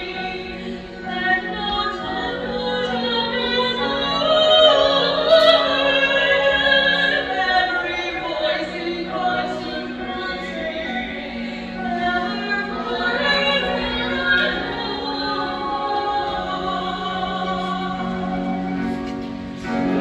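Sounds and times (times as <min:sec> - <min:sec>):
choir singing: 0:01.0 - 0:20.0.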